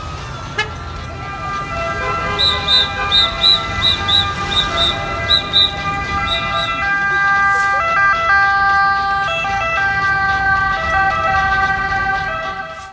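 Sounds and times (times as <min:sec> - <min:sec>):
engines rumbling in traffic: 0:00.0 - 0:12.9
ambulance two-tone siren: 0:01.2 - 0:12.9.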